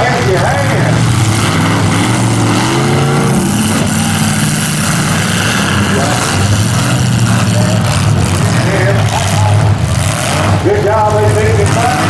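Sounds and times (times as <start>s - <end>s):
car engines running under load: 0.0s - 12.0s
engine revving: 0.0s - 12.0s.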